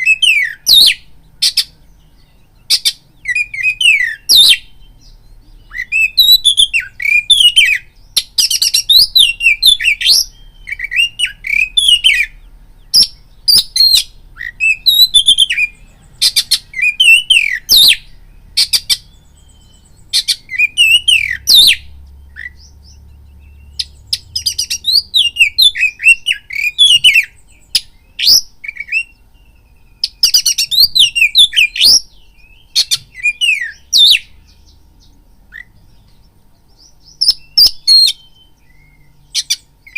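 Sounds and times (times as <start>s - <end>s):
bird singing whistles and clicks: 2.6s - 39.9s.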